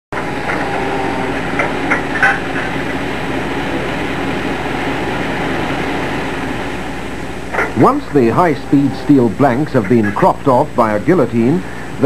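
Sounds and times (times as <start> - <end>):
factory machinery noise: 0.1 - 12.0.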